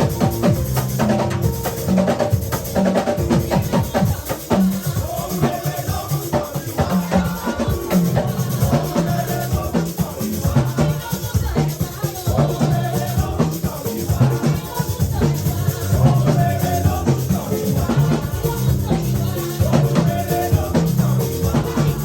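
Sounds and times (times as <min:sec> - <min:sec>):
drum kit beat: 0:00.0 - 0:22.0
instrumental band music: 0:00.0 - 0:22.0.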